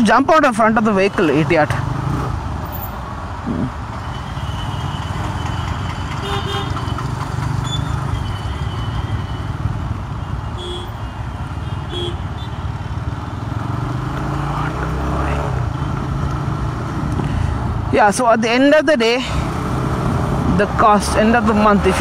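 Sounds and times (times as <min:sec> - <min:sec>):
wind and road noise: 0:00.0 - 0:22.0.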